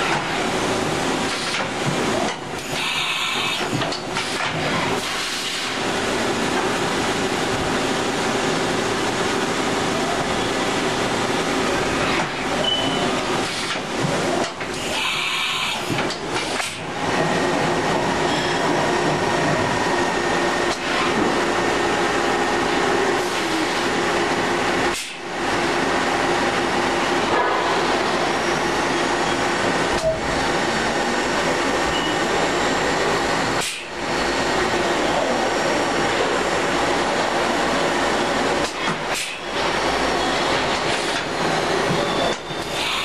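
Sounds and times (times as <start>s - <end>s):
machining center humming with faint whine: 0.0s - 43.0s.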